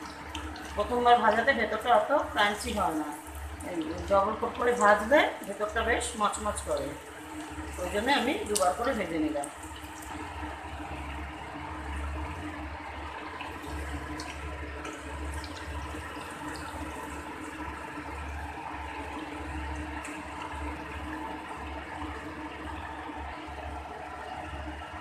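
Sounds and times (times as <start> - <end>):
chicken deep-frying in oil: 0.0 - 25.0.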